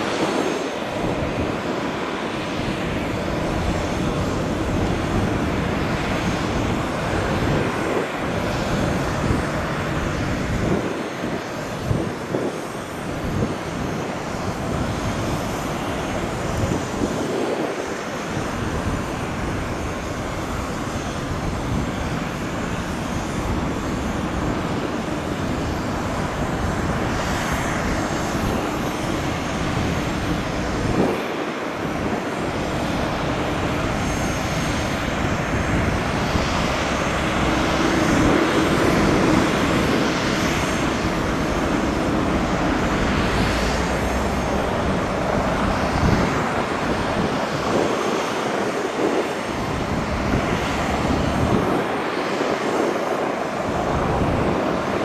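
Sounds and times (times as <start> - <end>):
jet engines taxiing: 0.0 - 55.0.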